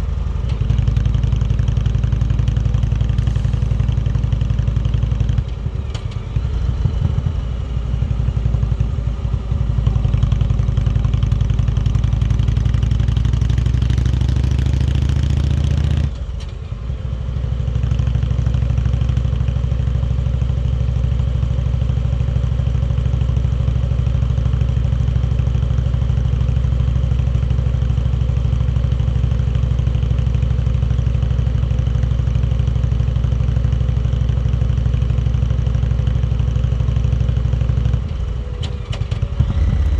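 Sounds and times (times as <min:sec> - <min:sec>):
motorcycle engine under throttle: 0:00.0 - 0:05.7, 0:06.4 - 0:16.4, 0:17.5 - 0:39.9.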